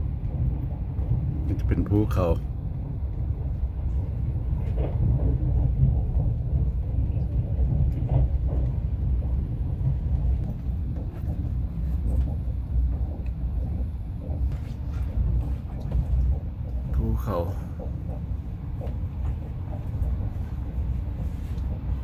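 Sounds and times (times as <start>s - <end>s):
train rumble inside carriage: 0.0s - 22.0s.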